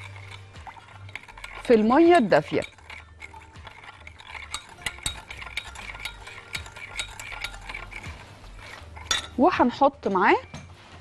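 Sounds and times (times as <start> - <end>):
metal spoon clinking against glass: 0.0 - 9.8.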